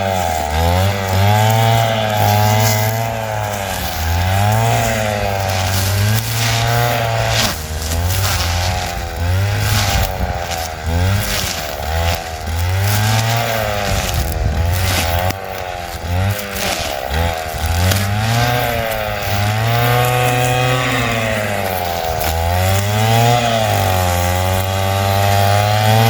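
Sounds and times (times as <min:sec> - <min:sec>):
brush cutter engine revving: 0:00.0 - 0:26.0.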